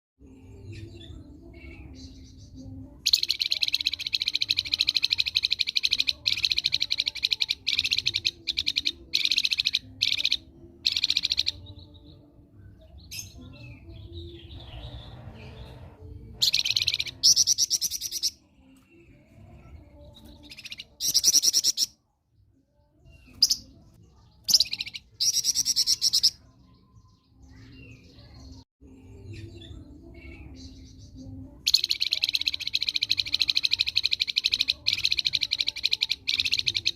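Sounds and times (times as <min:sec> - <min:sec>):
songbird singing rapid trills: 0:00.3 - 0:21.9, 0:23.0 - 0:36.9.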